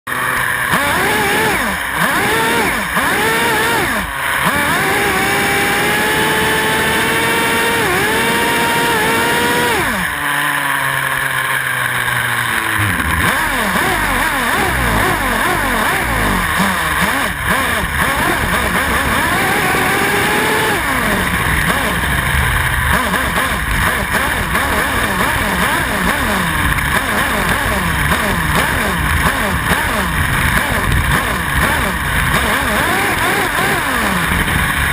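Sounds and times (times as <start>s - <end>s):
remote control car motor revving: 0.1s - 34.9s.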